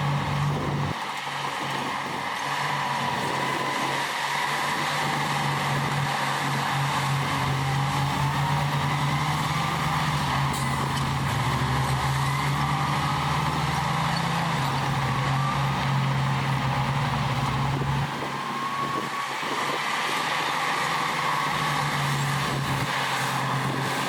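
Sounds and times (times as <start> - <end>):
diesel earthmoving machinery running: 0.0 - 24.0
high whine: 0.0 - 24.0.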